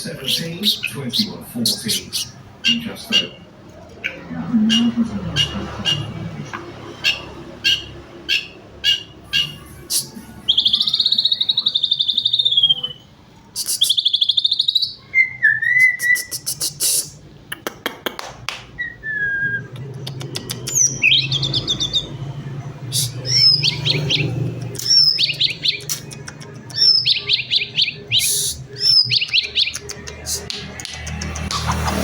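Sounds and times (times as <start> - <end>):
bird singing varied song: 0.0 - 17.1, 18.8 - 30.7.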